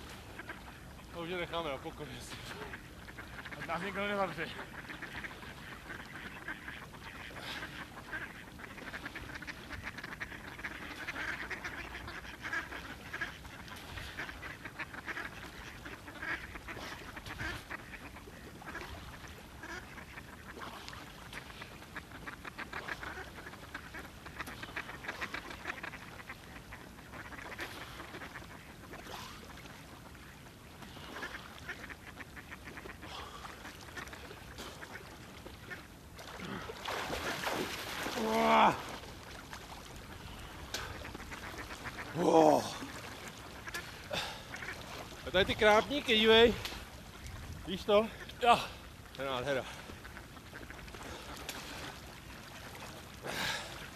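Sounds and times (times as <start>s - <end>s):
ducks quacking: 0.0s - 53.9s.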